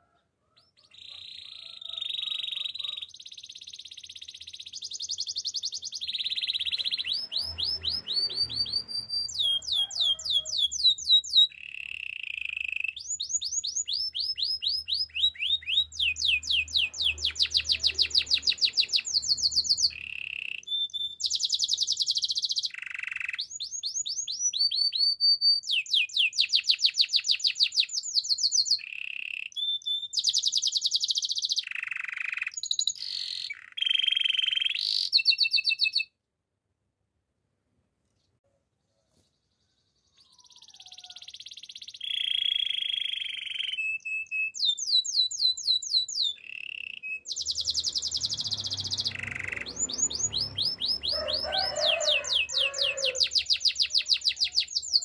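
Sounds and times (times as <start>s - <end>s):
canary singing trills: 0.0s - 36.1s, 39.4s - 55.0s.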